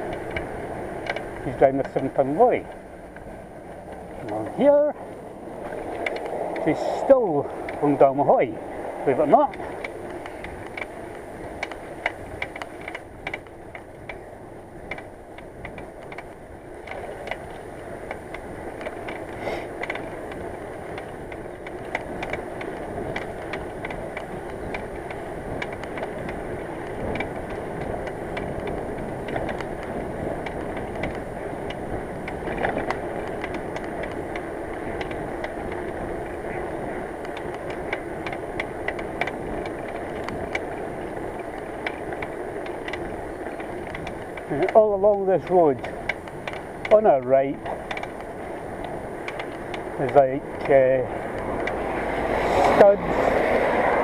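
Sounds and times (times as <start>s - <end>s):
bicycle riding on road: 0.0s - 54.0s.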